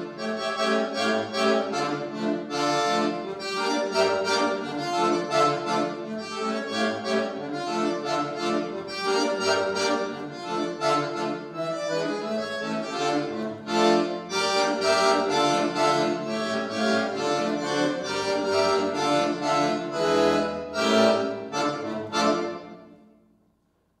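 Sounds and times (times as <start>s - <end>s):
accordion playing chords: 0.0s - 23.1s.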